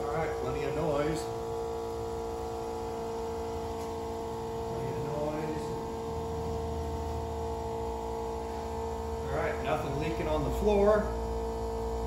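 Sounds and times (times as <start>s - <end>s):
electric fuel pump humming: 0.0s - 12.0s.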